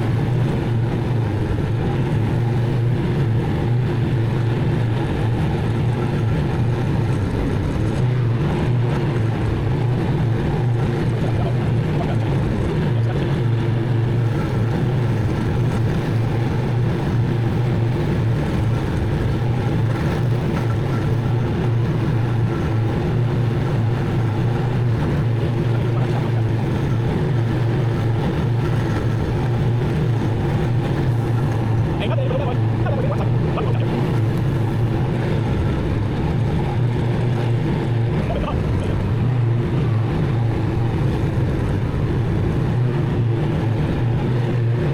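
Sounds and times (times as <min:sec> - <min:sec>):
mower engine running: 0:00.0 - 0:44.9.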